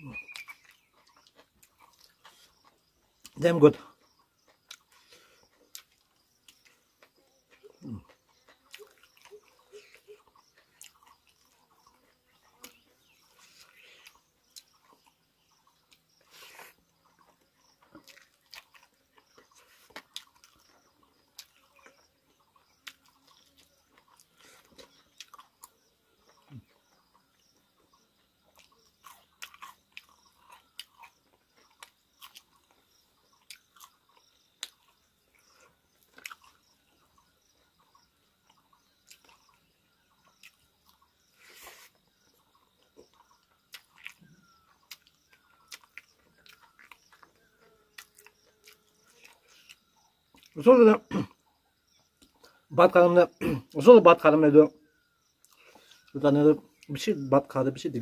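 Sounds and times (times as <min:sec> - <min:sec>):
faint chewing: 0:00.1 - 0:50.6, 0:55.3 - 0:57.0.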